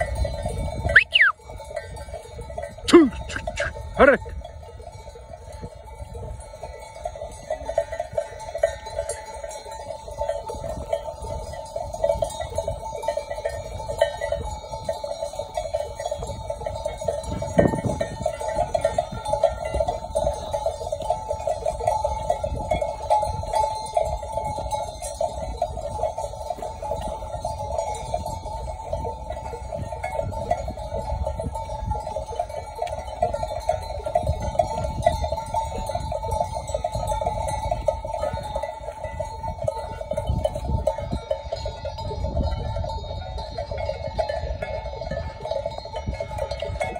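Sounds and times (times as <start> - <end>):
sheep bells clanking: 0.0 - 46.9.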